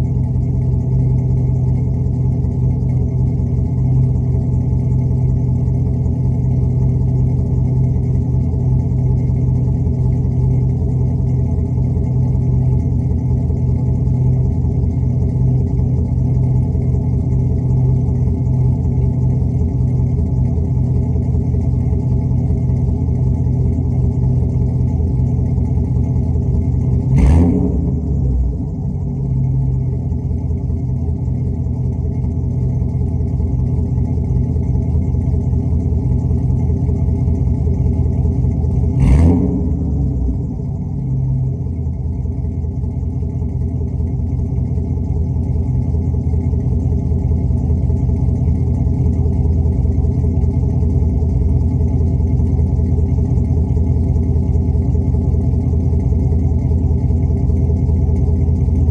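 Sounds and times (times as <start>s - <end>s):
engine idling and revving: 0.0s - 58.9s.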